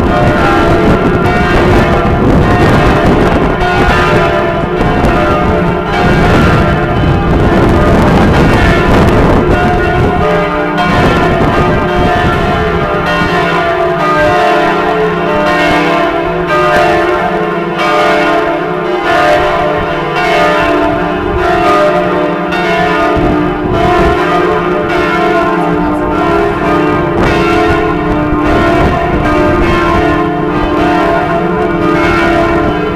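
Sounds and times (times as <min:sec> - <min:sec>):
church bells ringing: 0:00.0 - 0:32.9.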